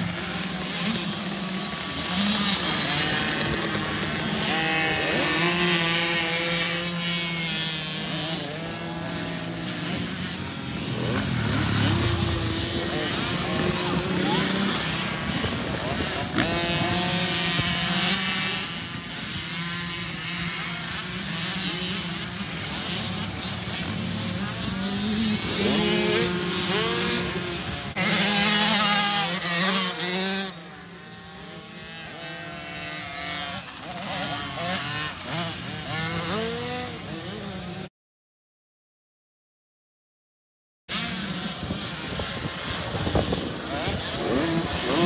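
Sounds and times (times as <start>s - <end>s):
dirt bike engines revving: 0.0s - 37.9s, 40.9s - 45.0s.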